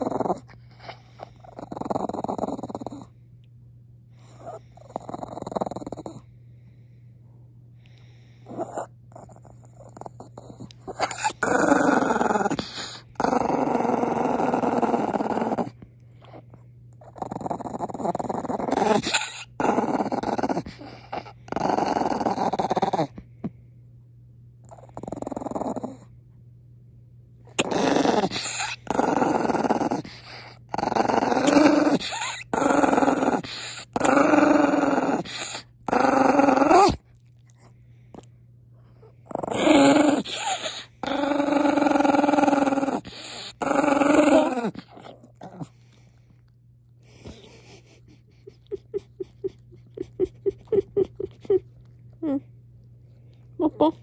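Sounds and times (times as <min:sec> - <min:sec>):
dog growling: 0:00.0 - 0:03.1, 0:04.2 - 0:06.2, 0:08.4 - 0:23.2, 0:24.6 - 0:26.1, 0:27.5 - 0:46.2, 0:47.0 - 0:52.5.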